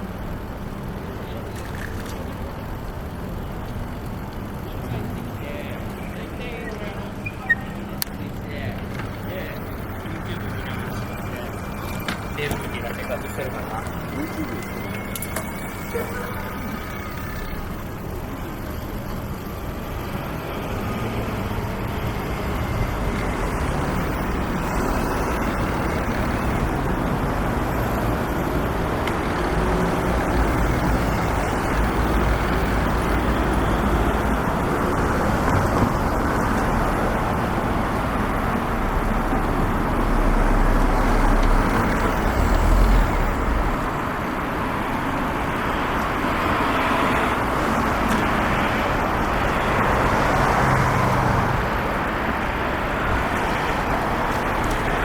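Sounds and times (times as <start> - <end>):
heavy vehicles rumbling: 0.0 - 55.0
passing cars: 0.0 - 55.0.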